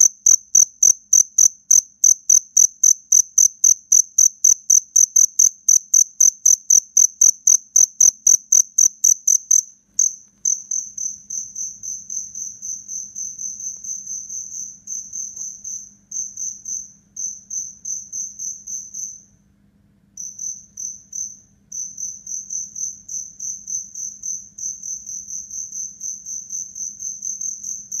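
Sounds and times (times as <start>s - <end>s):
cricket chirping: 0.0s - 19.4s, 20.1s - 28.0s.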